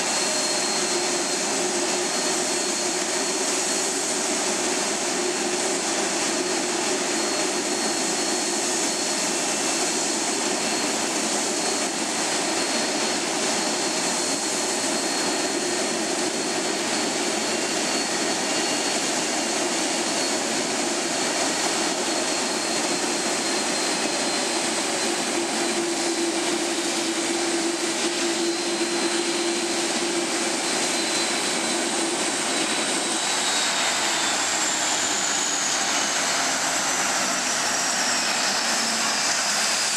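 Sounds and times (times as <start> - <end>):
jet engines whining at idle: 0.0 - 39.9.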